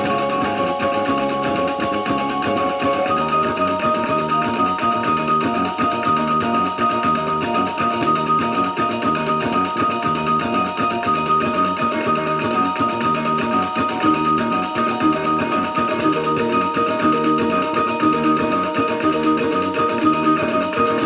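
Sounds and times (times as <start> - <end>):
small tuned gongs melody: 0.0 - 21.0.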